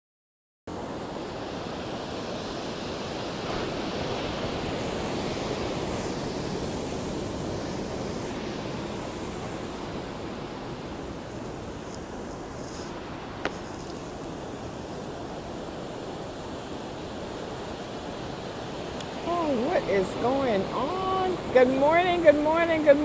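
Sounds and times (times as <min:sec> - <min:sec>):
ocean waves breaking: 0:00.7 - 0:23.0
wind rumbling on microphone: 0:00.8 - 0:23.0.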